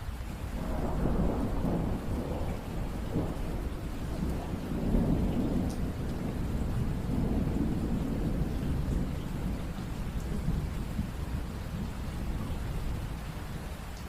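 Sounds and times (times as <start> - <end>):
rainfall: 0.0 - 14.0
rolling rumble of thunder: 0.0 - 14.0.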